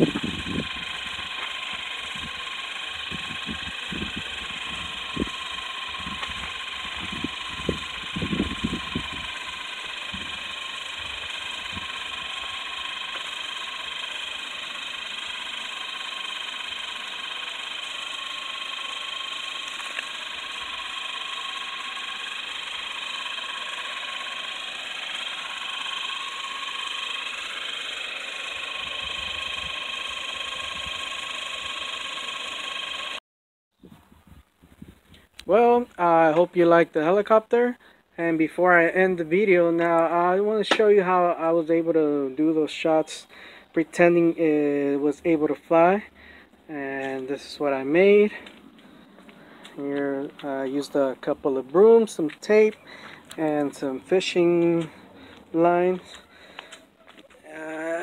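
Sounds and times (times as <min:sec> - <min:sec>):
electric motors whining: 0:00.0 - 0:33.2, 0:39.2 - 0:58.0.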